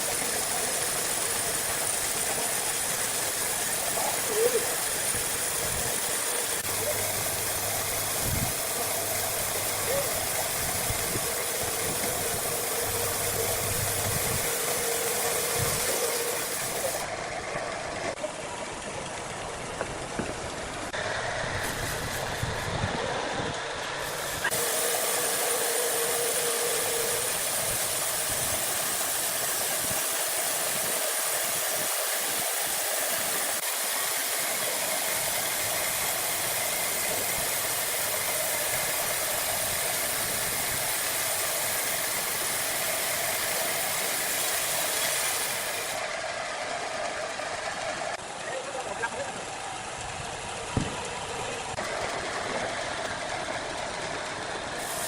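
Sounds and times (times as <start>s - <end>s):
sawmill machinery hissing: 0.0s - 55.0s.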